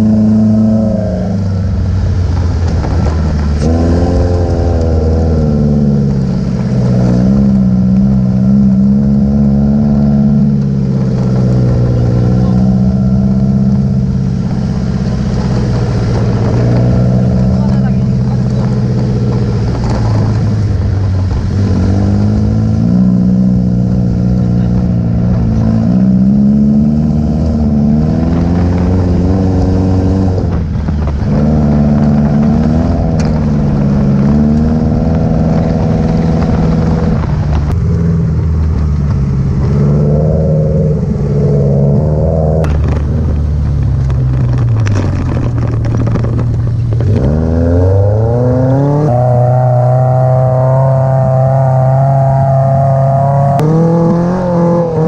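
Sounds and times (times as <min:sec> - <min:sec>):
buggy engine revving: 0:00.0 - 0:55.0.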